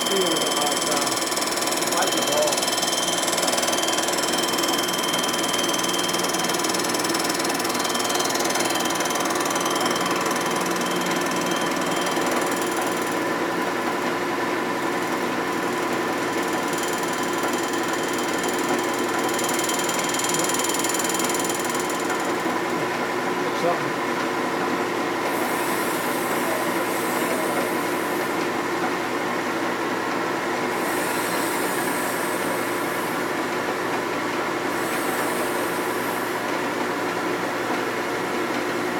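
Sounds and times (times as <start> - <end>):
cylinder honing machine running: 0.0 - 38.9.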